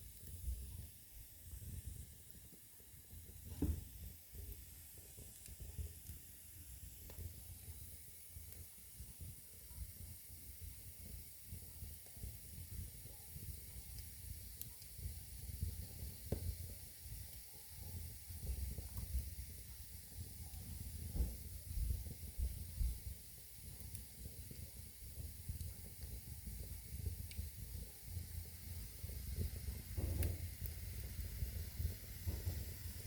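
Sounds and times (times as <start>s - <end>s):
fire crackles: 0.0s - 33.0s
sharp crack of fire: 0.0s - 33.0s
wood fire burning: 0.0s - 33.0s.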